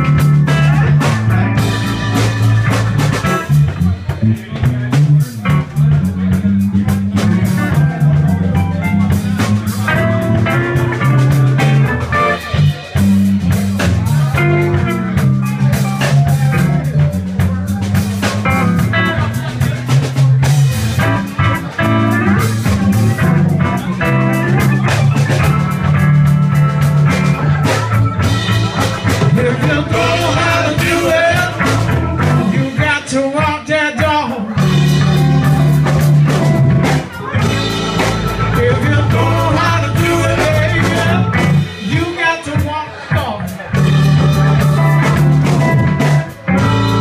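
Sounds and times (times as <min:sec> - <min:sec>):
drum kit: 0:00.0 - 0:47.0
electric bass: 0:00.0 - 0:47.0
electric guitar: 0:00.0 - 0:47.0
keyboard: 0:00.0 - 0:47.0.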